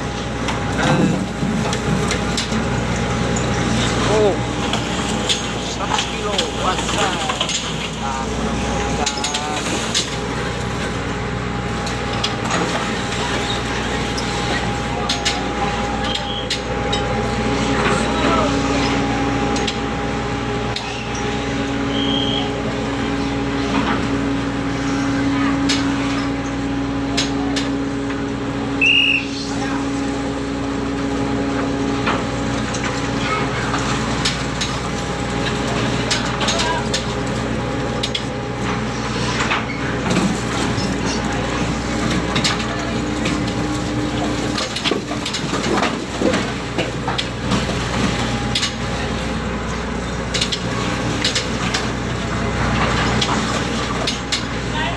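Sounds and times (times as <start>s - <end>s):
ship machinery droning: 0.0s - 54.9s
steady machine whine: 0.0s - 54.9s.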